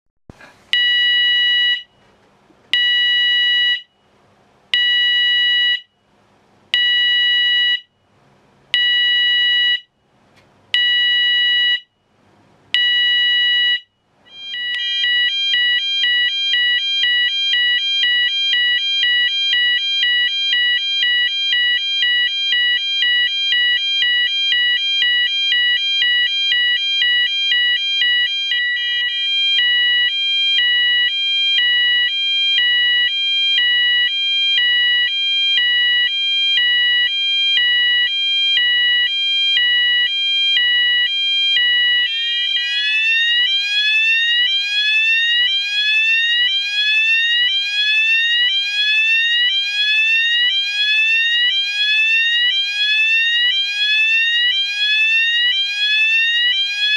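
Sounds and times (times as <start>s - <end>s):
fire alarm beeping: 0.7s - 2.0s, 2.8s - 3.9s, 4.8s - 5.9s, 6.8s - 7.9s, 8.8s - 9.9s, 10.8s - 11.9s, 12.8s - 56.9s
two-tone fire alarm sound: 0.7s - 2.0s, 2.8s - 4.0s, 4.7s - 5.9s, 6.8s - 7.9s, 8.8s - 9.9s, 10.8s - 11.9s, 12.8s - 56.9s.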